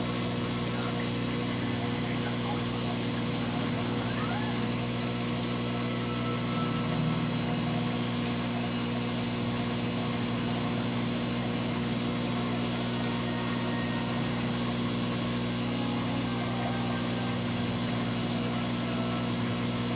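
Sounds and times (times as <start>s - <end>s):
aquarium pump humming: 0.0s - 19.9s.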